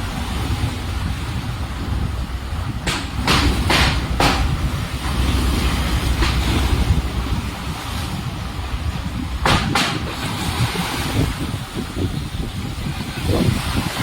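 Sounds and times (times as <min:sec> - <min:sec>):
storm wind buffeting microphone: 0:00.0 - 0:14.0.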